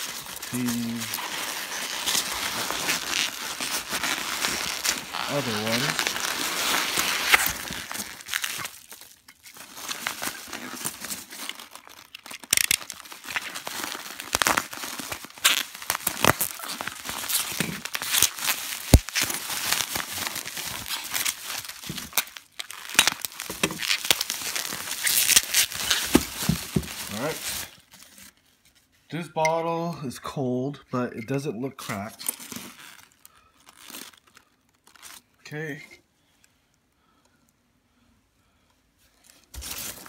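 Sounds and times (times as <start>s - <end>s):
packing peanuts rustling and squeaking: 0.0s - 28.8s, 31.3s - 35.4s, 39.1s - 40.0s
bubble wrap crinkling: 0.0s - 29.0s, 31.9s - 35.4s, 39.2s - 40.0s.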